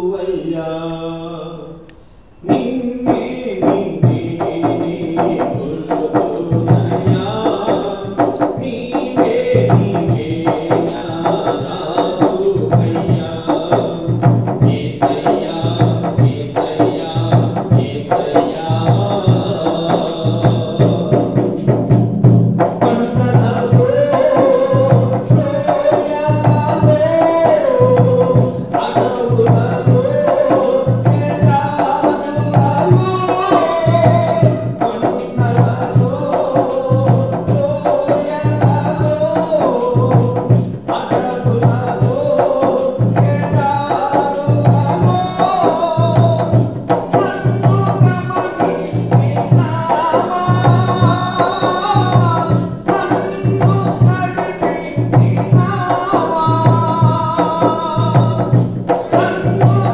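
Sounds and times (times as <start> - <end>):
devotional song: 0.0 - 59.9
tambourine and drum beat: 2.5 - 59.9.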